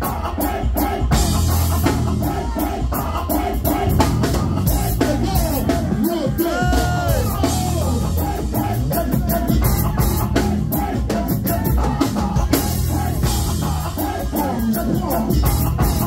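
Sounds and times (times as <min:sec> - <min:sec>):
drum beat: 0:00.0 - 0:16.0
person singing: 0:00.0 - 0:16.0
deep bass: 0:01.1 - 0:16.0.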